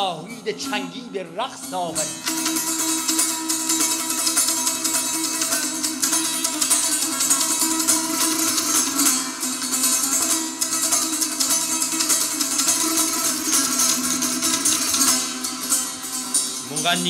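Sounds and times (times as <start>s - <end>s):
plucked long-necked lute: 0.0s - 17.0s.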